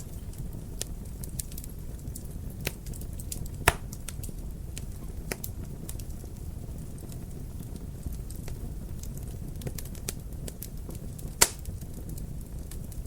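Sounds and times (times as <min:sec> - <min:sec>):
fire popping and snapping: 0:00.0 - 0:13.0
wood fire crackling: 0:00.0 - 0:13.0.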